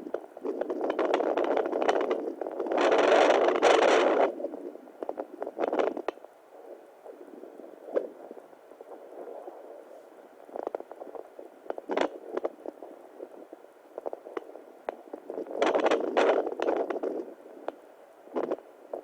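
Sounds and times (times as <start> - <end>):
muffled whooshing hiss: 0.0 - 19.0.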